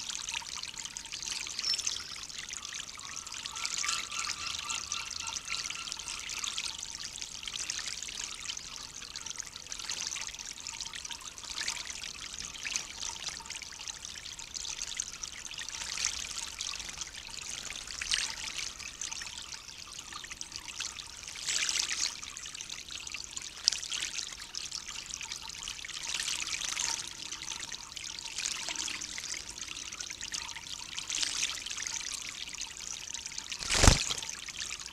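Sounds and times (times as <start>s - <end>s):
water splashing in bird bath: 0.0s - 34.9s.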